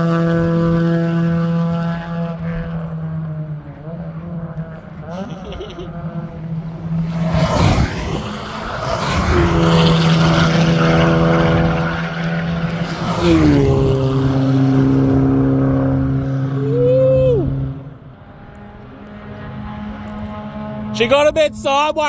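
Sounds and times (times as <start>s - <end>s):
race car passing at full throttle: 0.0s - 22.0s.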